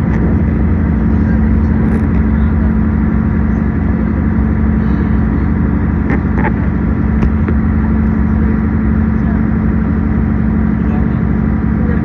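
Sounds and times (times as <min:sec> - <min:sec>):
diesel train engine hum and rumble: 0:00.0 - 0:12.0.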